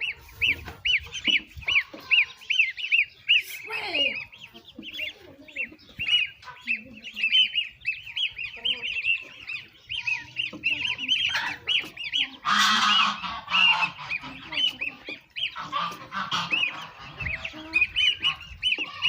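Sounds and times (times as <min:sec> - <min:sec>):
goslings and ducklings peeping: 0:00.0 - 0:19.0
honking calls: 0:00.0 - 0:19.0.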